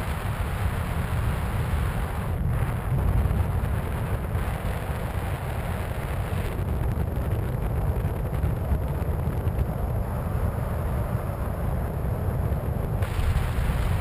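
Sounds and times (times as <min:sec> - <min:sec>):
wind buffeting rumble: 0:00.0 - 0:14.0.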